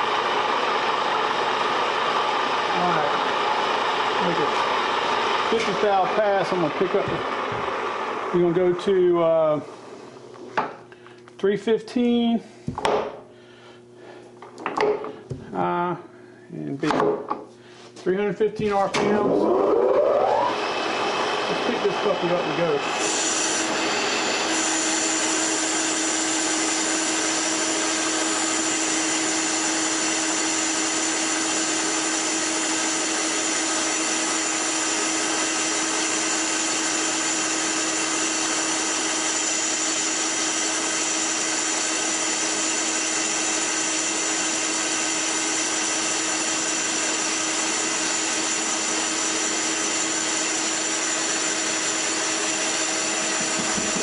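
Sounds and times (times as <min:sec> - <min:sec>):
lathe tool cutting metal: 0:00.0 - 0:08.8, 0:19.0 - 0:54.0
lathe machine whine: 0:00.0 - 0:10.2, 0:19.0 - 0:54.0.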